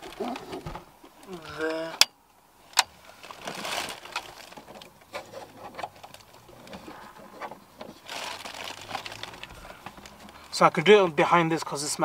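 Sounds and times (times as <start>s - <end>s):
cable rustling: 0.0s - 2.1s, 2.7s - 10.7s.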